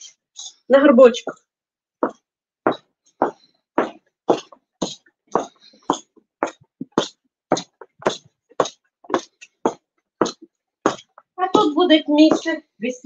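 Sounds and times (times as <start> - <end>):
footsteps on concrete floor: 1.2 - 12.7.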